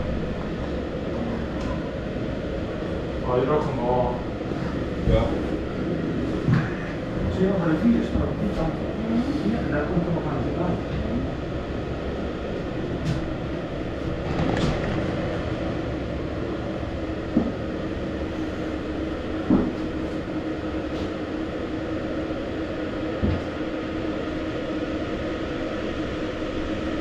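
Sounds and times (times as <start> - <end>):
cable car rumble and hum: 0.0 - 27.0.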